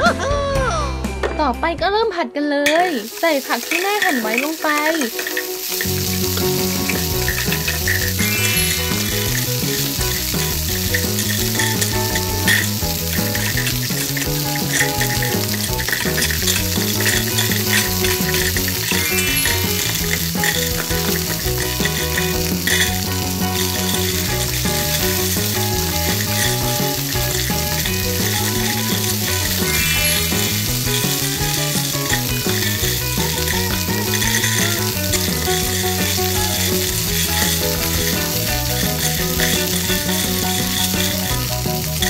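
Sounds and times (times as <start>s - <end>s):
background music: 0.0s - 42.0s
frying sizzle: 2.7s - 42.0s.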